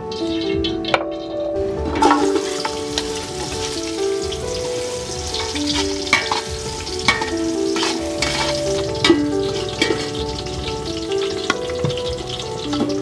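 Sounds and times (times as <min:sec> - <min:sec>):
background music: 0:00.0 - 0:13.0
utensil clinking: 0:00.1 - 0:13.0
food sizzling in a pan: 0:02.0 - 0:13.0.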